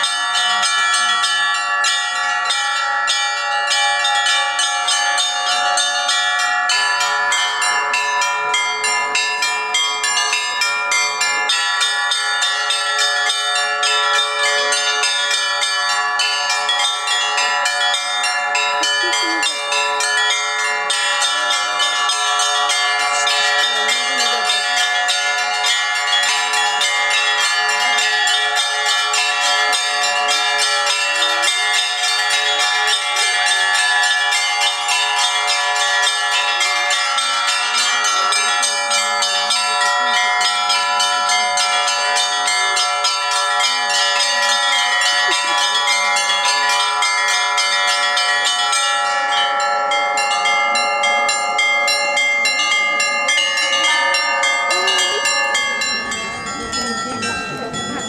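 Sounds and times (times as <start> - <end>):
large church bells ringing: 0.0 - 58.0
small church bells ringing quickly: 0.0 - 58.0.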